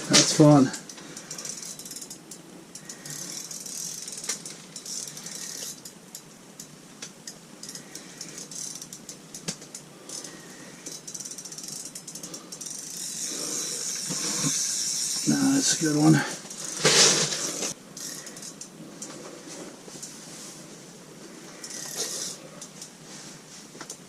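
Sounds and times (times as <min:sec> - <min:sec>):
fishing reel ratcheting clicks: 0:00.4 - 0:16.8, 0:17.6 - 0:19.1, 0:21.6 - 0:22.9.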